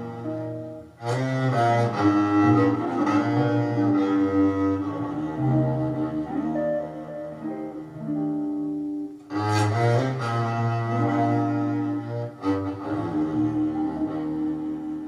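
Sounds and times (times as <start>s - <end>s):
bowed string music: 0.0s - 15.0s.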